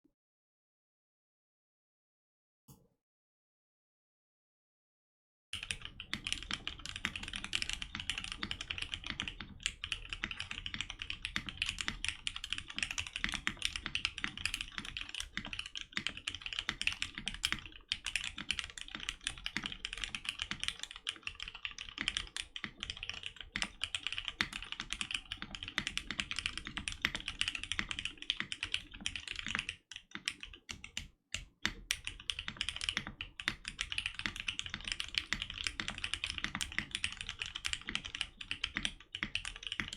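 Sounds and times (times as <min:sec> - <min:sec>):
mechanical keyboard keystrokes clacking: 0:05.6 - 0:39.9.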